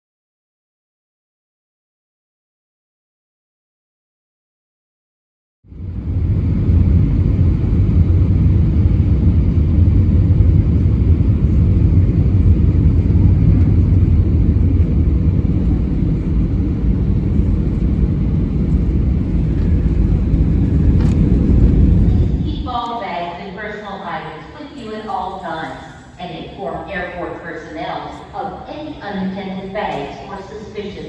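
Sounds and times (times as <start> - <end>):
airliner cabin rumble: 5.7 - 31.0.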